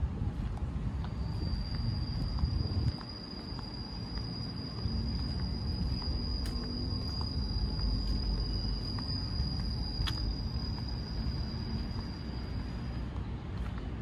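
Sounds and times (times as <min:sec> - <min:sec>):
high-pitched insect drone: 0:01.0 - 0:13.2.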